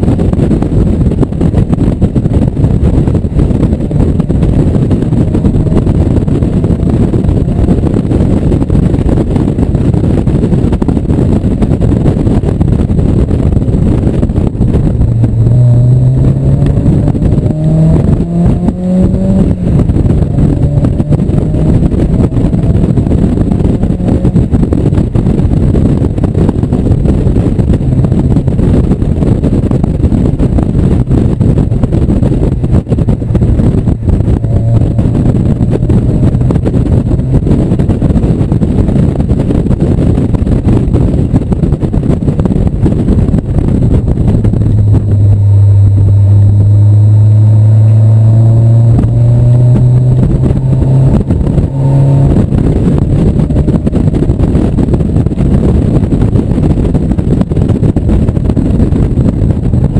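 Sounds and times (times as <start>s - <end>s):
wind rush: 0.0s - 59.9s
car engine pulling hard: 0.1s - 59.9s.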